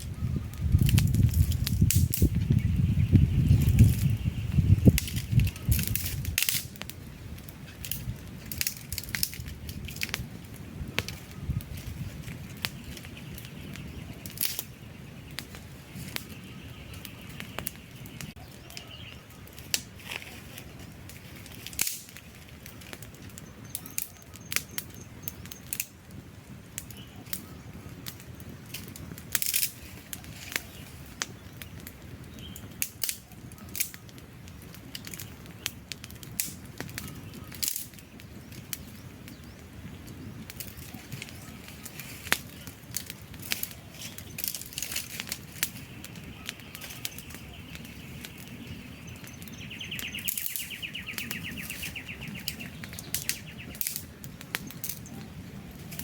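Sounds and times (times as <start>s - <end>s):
campfire crackling and popping: 0.0s - 56.0s
low rush of flame: 0.0s - 56.0s.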